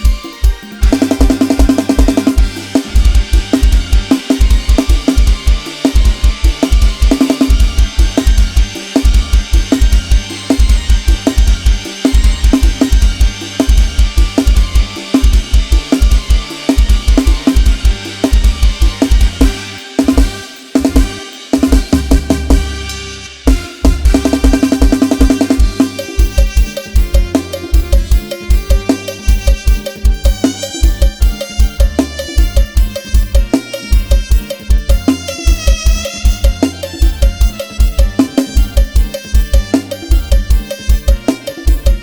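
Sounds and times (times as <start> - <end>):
dance music with drum kit: 0.0 - 42.0.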